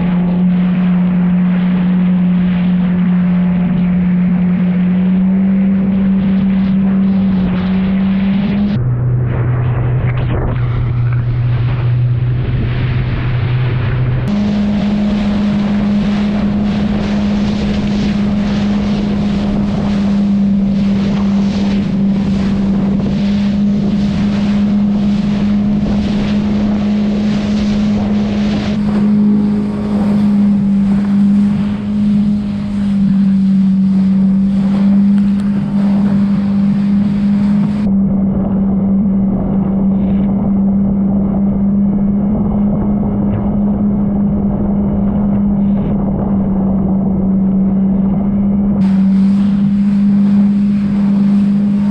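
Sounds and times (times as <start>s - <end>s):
water spray from hull: 0.0s - 46.7s, 48.8s - 51.9s
jet ski engine droning: 0.0s - 51.9s
wind on microphone: 0.0s - 51.9s.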